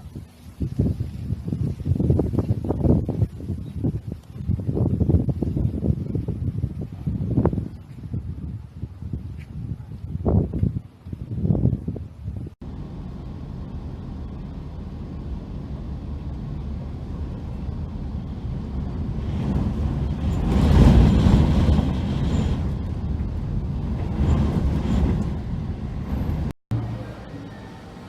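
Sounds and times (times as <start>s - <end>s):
wind buffeting microphone: 0.0s - 26.6s.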